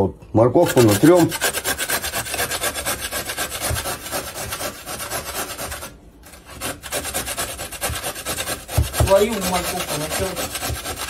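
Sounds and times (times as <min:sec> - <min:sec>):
carrot grating on box grater: 0:00.6 - 0:11.0.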